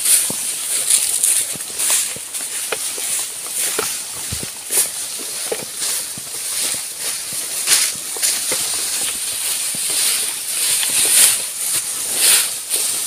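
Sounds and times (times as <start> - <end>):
footsteps: 0.0 - 13.0
steady high hiss: 0.0 - 13.0
tall grass swishing: 0.0 - 13.0.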